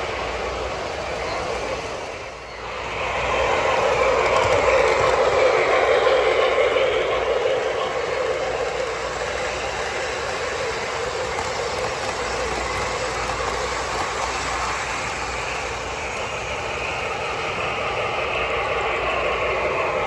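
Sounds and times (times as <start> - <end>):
model train rumbling on track: 0.0 - 20.0.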